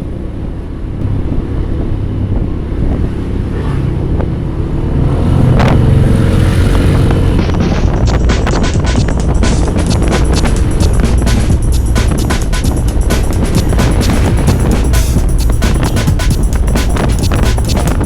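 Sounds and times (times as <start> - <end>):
vehicle engine and road noise: 0.0 - 18.0
wind on microphone: 1.0 - 18.0.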